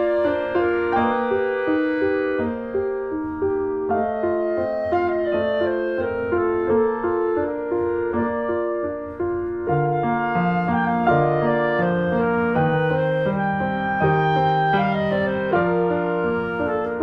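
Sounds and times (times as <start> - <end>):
gentle piano and woodwind music: 0.0 - 17.0.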